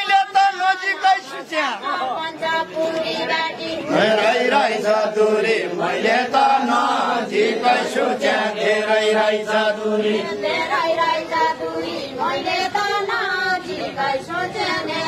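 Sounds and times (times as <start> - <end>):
men singing unaccompanied: 0.0 - 15.0.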